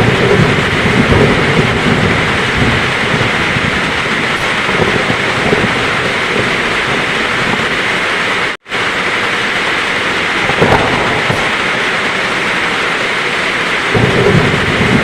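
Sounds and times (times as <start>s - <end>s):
heavy rain falling: 0.0s - 15.0s
low thunder rumble: 0.0s - 15.0s.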